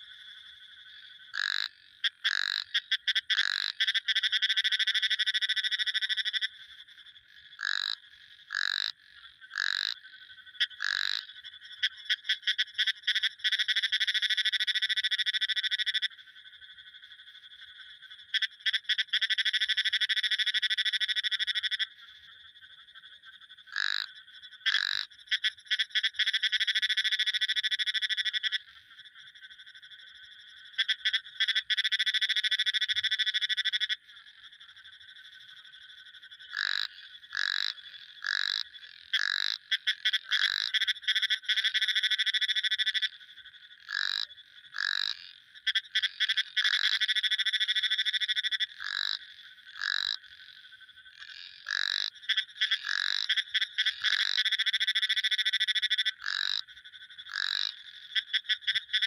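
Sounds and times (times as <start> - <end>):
frog calls dropping in pitch: 0.0 - 17.0, 17.6 - 22.3, 23.6 - 59.0
frogs trilling: 0.0 - 59.0.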